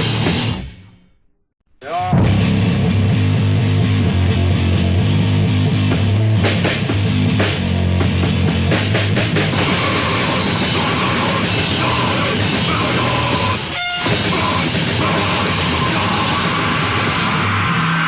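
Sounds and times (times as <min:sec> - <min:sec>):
distorted heavy metal band: 0:00.0 - 0:01.0, 0:01.8 - 0:18.0.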